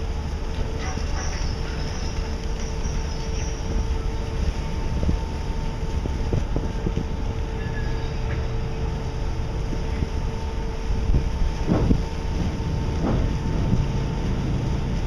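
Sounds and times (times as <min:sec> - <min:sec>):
constant two-note hum: 0:00.0 - 0:15.0
ship engine deep rumble: 0:00.0 - 0:15.0.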